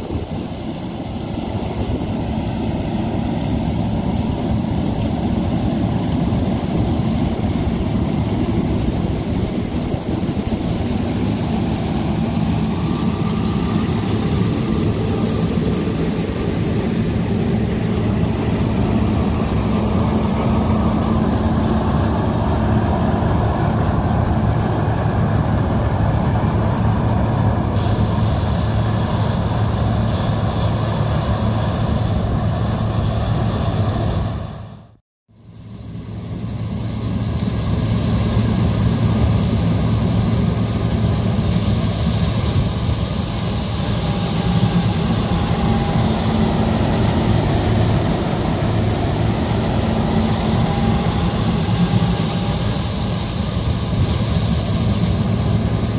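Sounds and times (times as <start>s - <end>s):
heavy diesel machinery humming: 0.0s - 55.9s.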